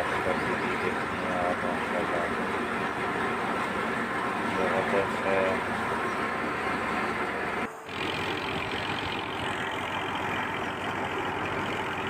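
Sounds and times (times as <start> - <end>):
thresher mechanical noise: 0.0 - 12.0
tractor engine running: 0.0 - 12.0.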